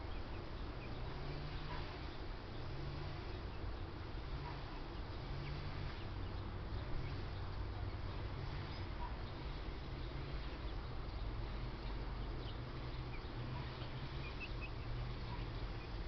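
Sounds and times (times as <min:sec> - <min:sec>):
faint bird chirps: 0:00.0 - 0:16.0
low outdoor rumble: 0:00.0 - 0:16.0.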